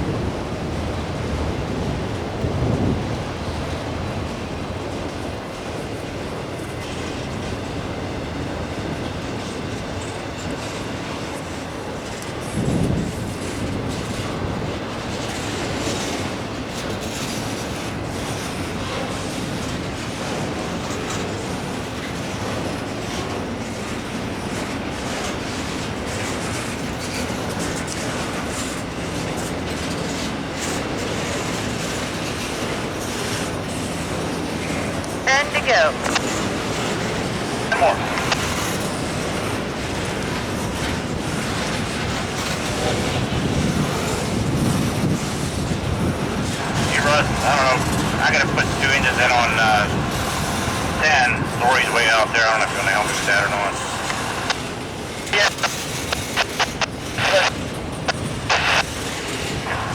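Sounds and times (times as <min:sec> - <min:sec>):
freight train cars rolling past: 0:00.0 - 0:59.9.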